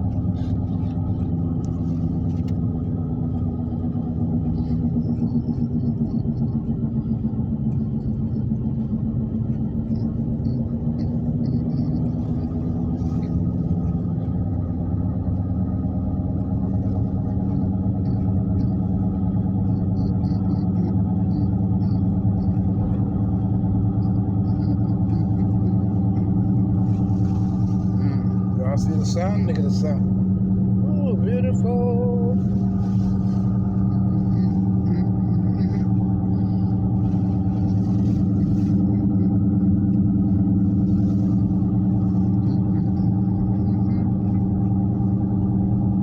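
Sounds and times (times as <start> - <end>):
droning wheel hum: 0.0 - 46.0.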